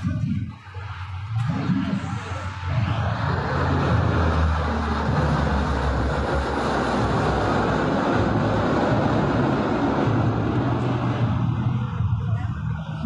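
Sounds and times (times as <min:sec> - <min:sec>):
fighter jet flying by: 0:00.0 - 0:13.0.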